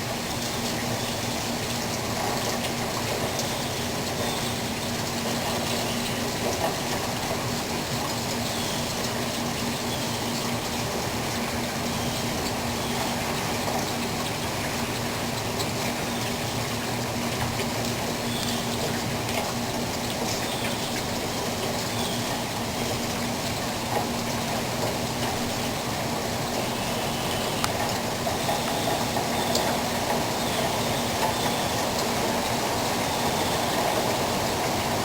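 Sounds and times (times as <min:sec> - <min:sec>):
faint steady hum: 0:00.0 - 0:35.0
rain falling steadily: 0:00.0 - 0:35.0.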